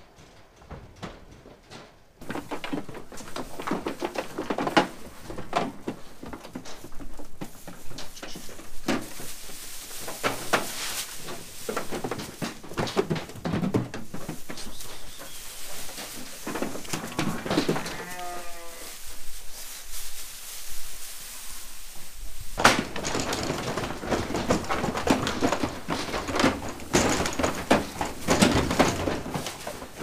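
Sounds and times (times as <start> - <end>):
sheep moving on straw: 2.2 - 30.0.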